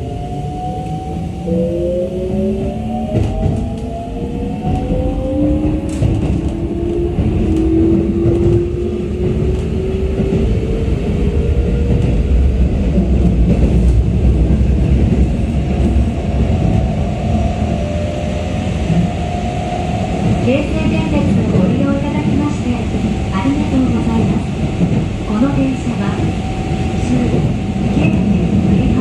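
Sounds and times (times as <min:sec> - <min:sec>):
wheels rumbling on rail: 0:00.0 - 0:29.0.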